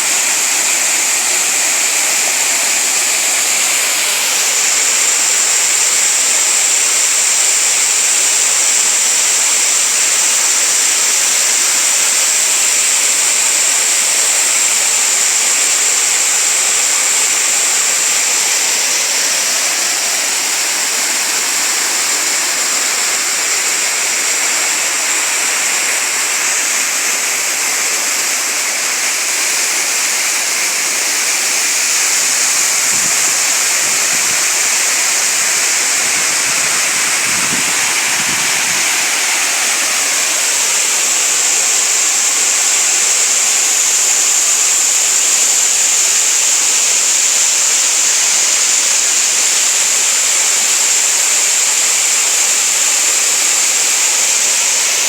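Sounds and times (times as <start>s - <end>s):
waterfalls and running stream: 0.0s - 55.0s.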